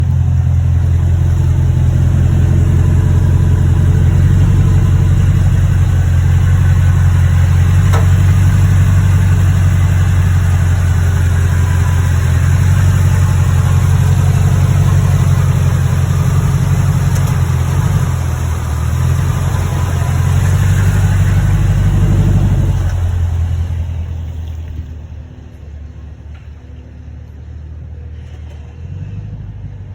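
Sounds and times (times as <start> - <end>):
popping beneath truck: 0.0 - 25.3
truck engine running: 0.0 - 29.9.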